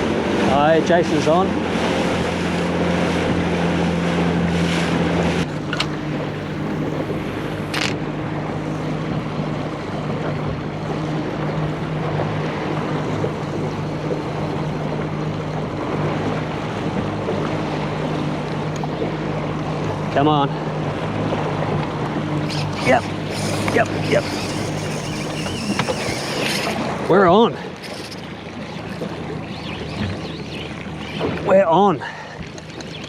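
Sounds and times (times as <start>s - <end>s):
outboard motor running: 0.0s - 33.0s
water noise: 0.0s - 33.0s
wind: 0.0s - 33.0s.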